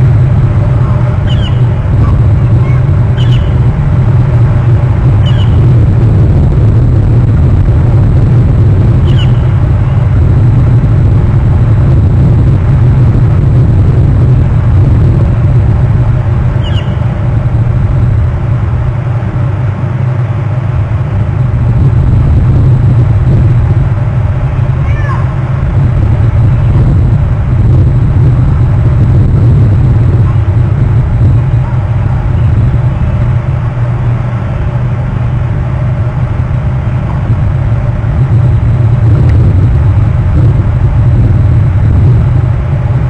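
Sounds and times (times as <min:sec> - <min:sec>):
loud low rumble: 0:00.0 - 0:43.0.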